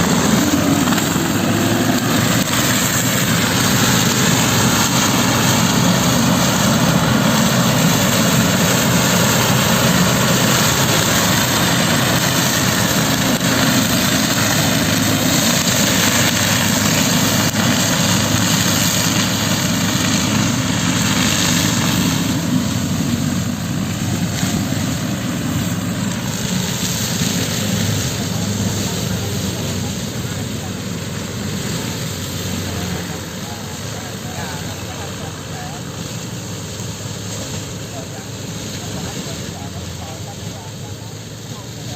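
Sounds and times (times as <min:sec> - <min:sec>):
dense rushing noise: 0:00.0 - 0:41.9
mulcher engine drone: 0:00.0 - 0:41.9.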